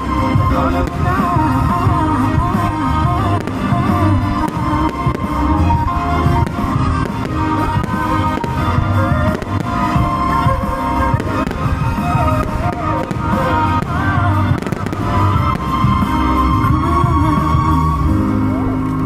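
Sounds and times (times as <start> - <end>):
fireworks bangs: 0.0 - 17.8
music with sustained tones: 0.0 - 19.0.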